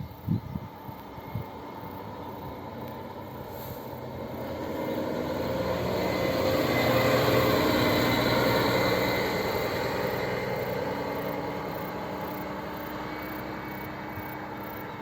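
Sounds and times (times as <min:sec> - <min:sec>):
diesel coach driving past: 0:01.2 - 0:15.0.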